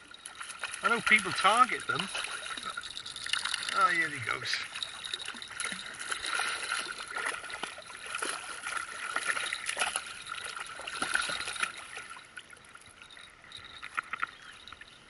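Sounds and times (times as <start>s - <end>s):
fish splashing in water: 0.0s - 14.7s.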